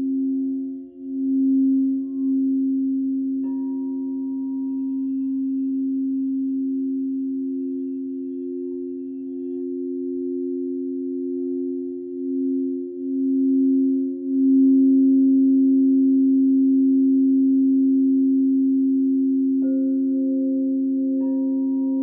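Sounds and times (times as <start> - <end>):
singing bowls ringing: 0.0 - 22.0.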